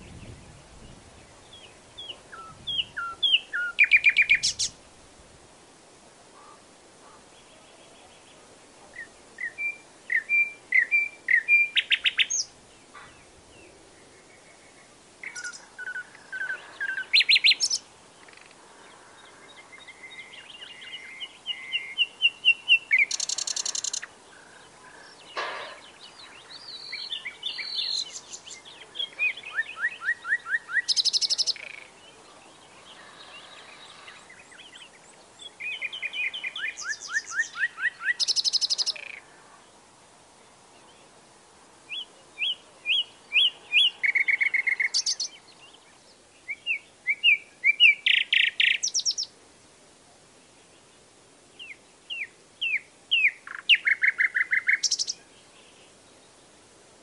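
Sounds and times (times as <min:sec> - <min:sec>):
nightingale singing: 0:00.0 - 0:04.8, 0:06.4 - 0:18.6, 0:19.2 - 0:39.3, 0:41.9 - 0:49.4, 0:50.5 - 0:56.6.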